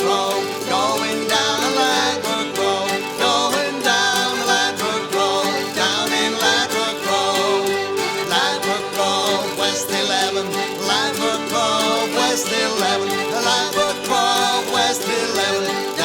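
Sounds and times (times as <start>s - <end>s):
folk band playing: 0.0s - 16.0s.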